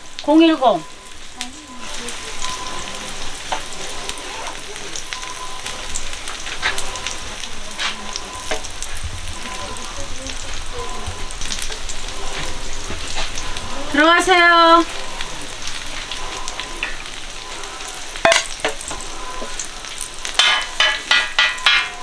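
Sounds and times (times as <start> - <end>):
batter sizzling in oil: 0.0 - 22.0.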